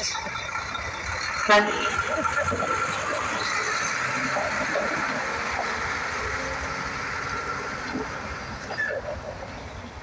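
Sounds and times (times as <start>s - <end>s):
diesel truck engine: 0.0s - 10.0s.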